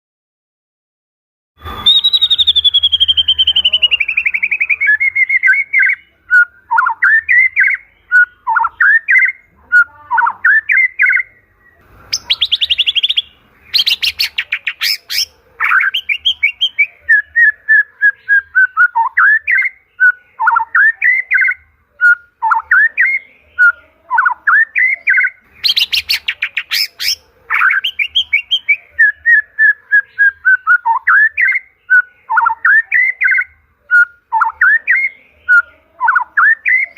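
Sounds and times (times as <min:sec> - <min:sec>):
bird singing whistled phrases: 0:01.6 - 0:36.9.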